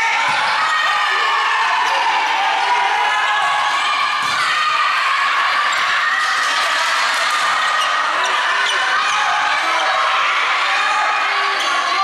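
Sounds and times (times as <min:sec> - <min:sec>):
indoor crowd din: 0:00.0 - 0:12.0.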